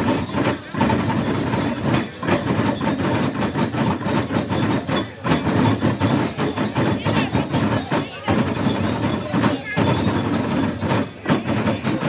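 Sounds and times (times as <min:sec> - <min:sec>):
hand drums beating: 0:00.0 - 0:12.0.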